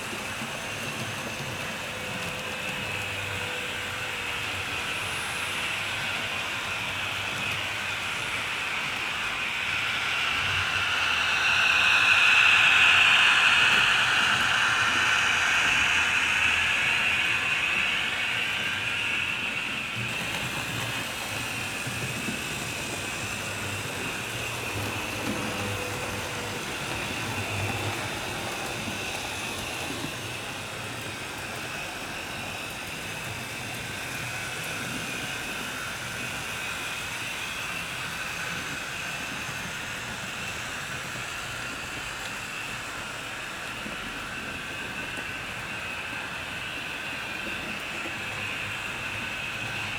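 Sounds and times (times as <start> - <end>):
model train whirring: 0.0 - 49.9.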